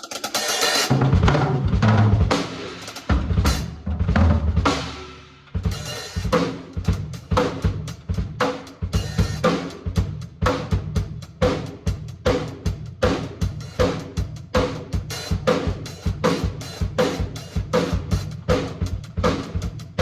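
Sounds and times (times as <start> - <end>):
drum kit playing groove: 0.0 - 20.0.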